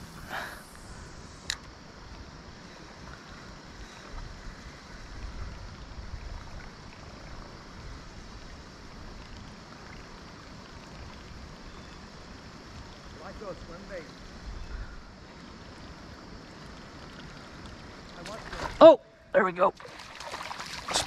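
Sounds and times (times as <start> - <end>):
wind rumble on microphone: 0.0 - 18.6
light wind: 0.0 - 21.0
river water washing: 0.0 - 21.0.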